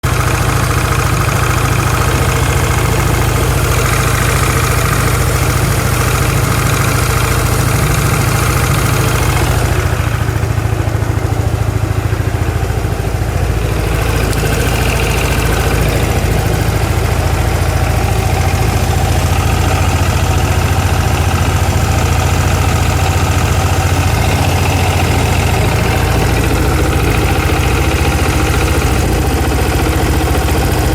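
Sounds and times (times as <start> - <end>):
scooter engine idling: 0.0 - 30.9.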